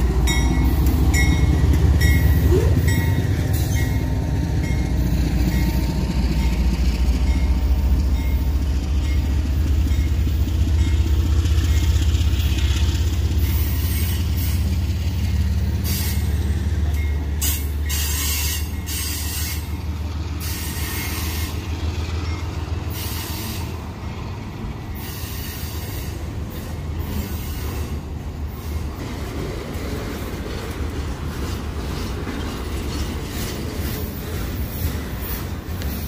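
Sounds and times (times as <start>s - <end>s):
locomotive engine rumbling: 0.0s - 36.0s
train wheels rumbling on rails: 0.0s - 36.0s.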